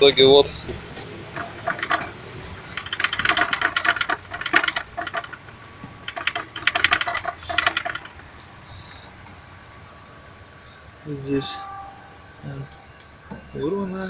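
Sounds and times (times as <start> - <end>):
radiator clattering metallically: 0.0 - 14.0.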